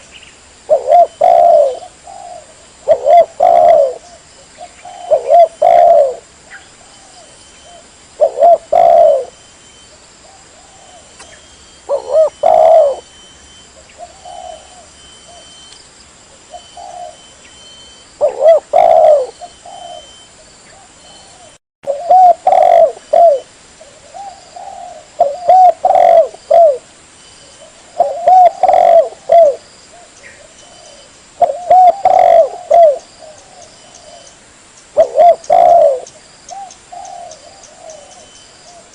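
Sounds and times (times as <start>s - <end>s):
dove cooing: 0.7s - 15.7s, 16.4s - 34.3s, 34.9s - 38.9s.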